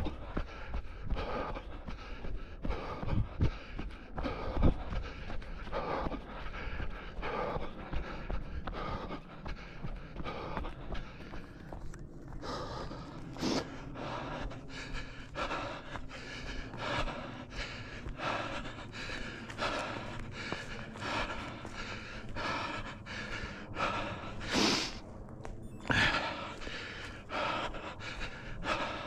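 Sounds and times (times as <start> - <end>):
person gasping for breath: 0.0 - 25.0, 25.8 - 29.0.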